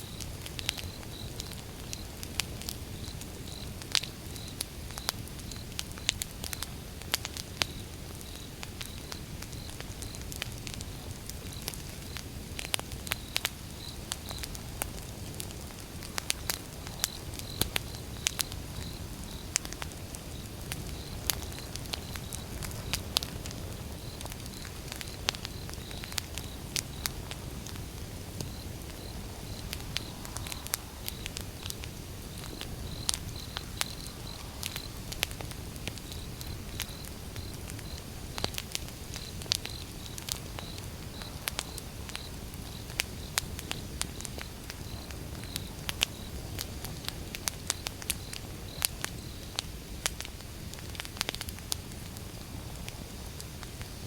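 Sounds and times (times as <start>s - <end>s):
burning logs crackling and popping: 0.0s - 54.0s
low rumble of flames: 0.0s - 54.0s.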